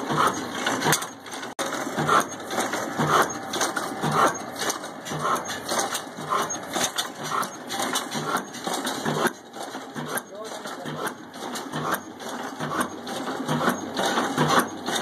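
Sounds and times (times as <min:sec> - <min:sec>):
stationary diesel engine running slowly: 0:00.0 - 0:15.0.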